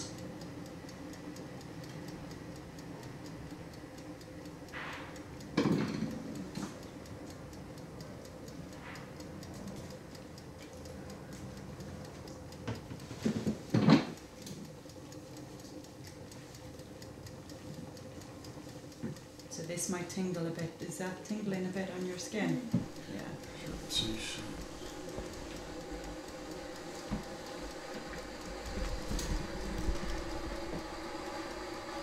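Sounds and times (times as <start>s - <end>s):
facial steamer humming: 0.0s - 32.0s
faint regular ticking: 0.0s - 32.0s.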